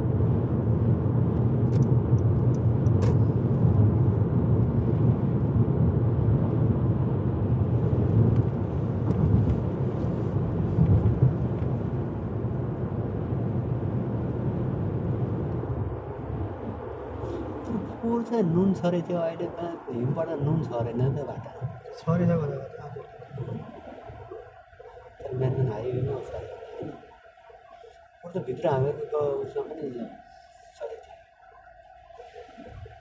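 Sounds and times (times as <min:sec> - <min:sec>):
car interior rumble on snowy road: 0:00.0 - 0:33.0.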